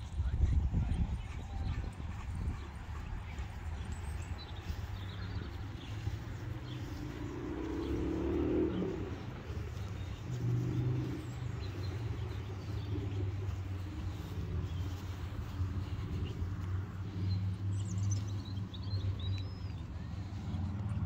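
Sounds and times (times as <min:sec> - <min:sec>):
faint birds chirping: 0:00.0 - 0:21.0
car engine rumbling: 0:02.9 - 0:21.0.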